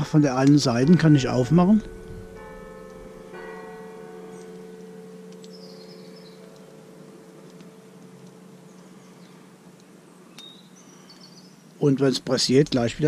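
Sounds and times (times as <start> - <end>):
faint metallic ringing: 0.6 - 11.8.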